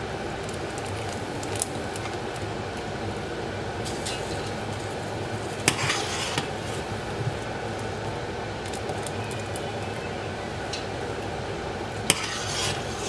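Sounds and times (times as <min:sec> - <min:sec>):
rice rustling: 0:00.0 - 0:09.9, 0:12.0 - 0:13.0.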